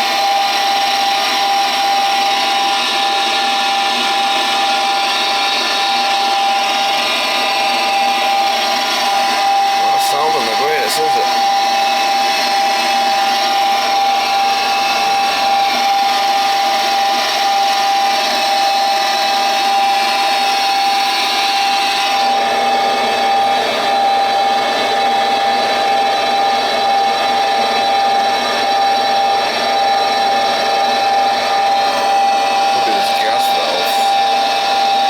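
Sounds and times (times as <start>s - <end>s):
furnace motor hum: 0.0s - 35.0s.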